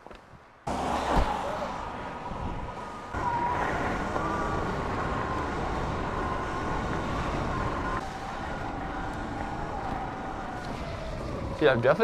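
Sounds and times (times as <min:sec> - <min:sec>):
tyre and wind rumble: 0:00.0 - 0:12.0.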